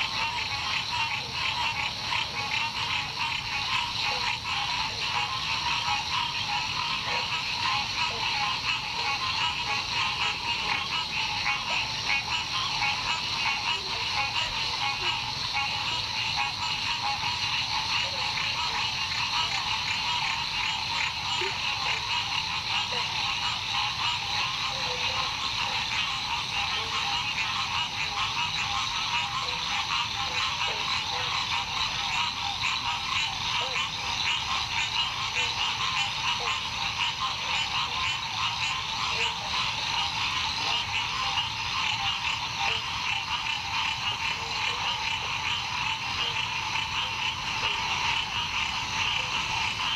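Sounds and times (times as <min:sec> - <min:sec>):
chorus of frogs trilling: 0:00.0 - 0:49.9.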